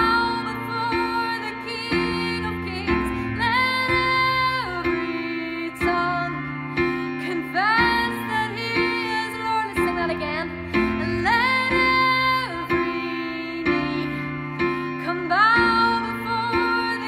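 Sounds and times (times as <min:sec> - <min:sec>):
electric keyboard chords: 0:00.0 - 0:17.0
woman singing: 0:00.0 - 0:17.0.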